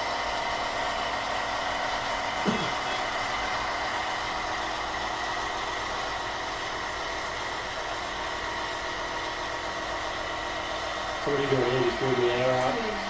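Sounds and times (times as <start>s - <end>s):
diesel engine idling: 2.4s - 13.0s.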